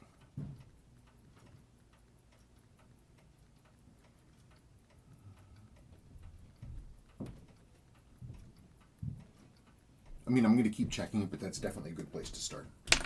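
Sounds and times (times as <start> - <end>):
watch ticking: 0.0 - 13.0.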